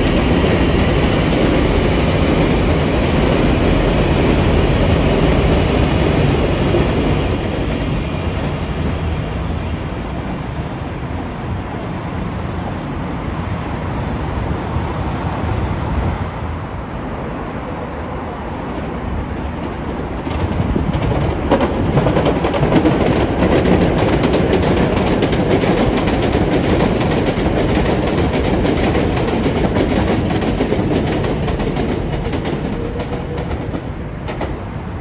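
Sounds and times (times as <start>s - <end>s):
high-speed train passing: 0.0s - 35.0s
rail clicks: 0.0s - 35.0s.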